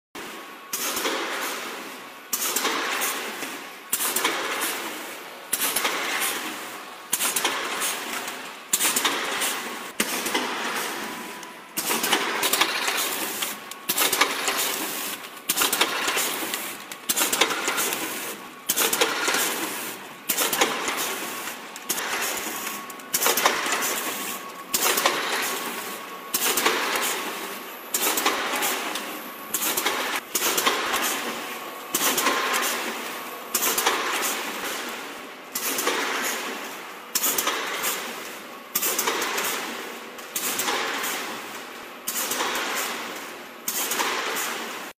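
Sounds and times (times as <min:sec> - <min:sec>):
packing machine clacking: 0:05.5 - 0:44.8.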